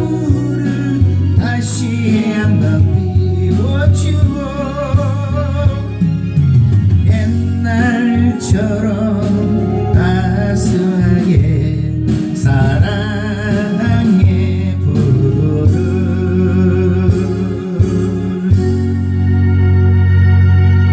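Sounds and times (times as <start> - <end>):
person singing with vibrato: 0.0 - 19.8
instrumental backing with bass: 0.0 - 20.9.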